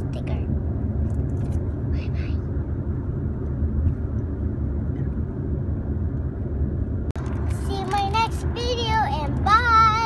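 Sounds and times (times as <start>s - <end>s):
car engine rumble from cabin: 0.0s - 10.0s.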